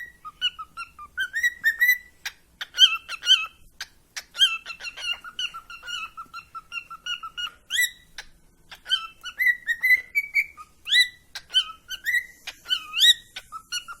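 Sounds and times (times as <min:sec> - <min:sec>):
cockatiel whistling upward: 0:00.0 - 0:03.6, 0:04.3 - 0:08.0, 0:08.7 - 0:14.0
cockatiel chirps: 0:00.0 - 0:14.0.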